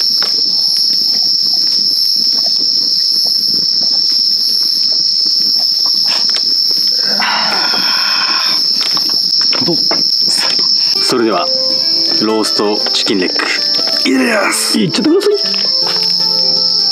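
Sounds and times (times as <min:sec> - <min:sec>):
campfire crackling: 0:00.0 - 0:16.9
crickets chirping: 0:00.0 - 0:16.9.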